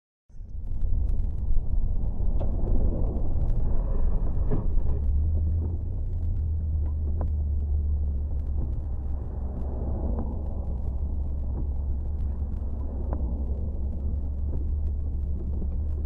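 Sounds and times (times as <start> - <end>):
car engine and road rumble: 0.3 - 16.0.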